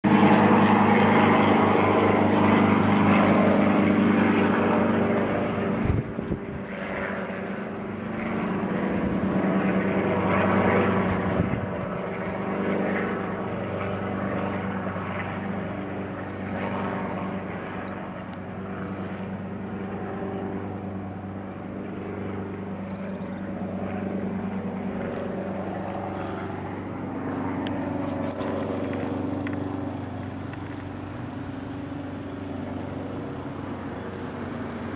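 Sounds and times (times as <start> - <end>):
helicopter flying overhead: 0.0 - 34.9.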